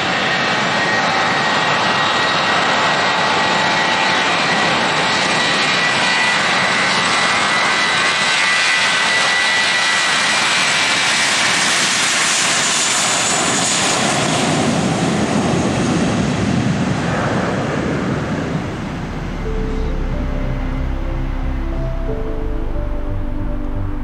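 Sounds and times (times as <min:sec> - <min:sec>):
jet engines roaring on takeoff: 0:00.0 - 0:22.8.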